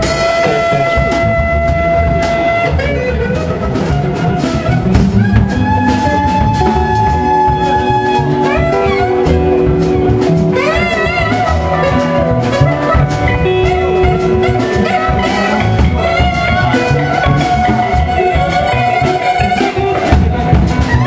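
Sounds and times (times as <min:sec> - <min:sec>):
bass guitar: 0:00.0 - 0:21.0
drum kit: 0:00.0 - 0:21.0
electric guitar: 0:00.0 - 0:21.0.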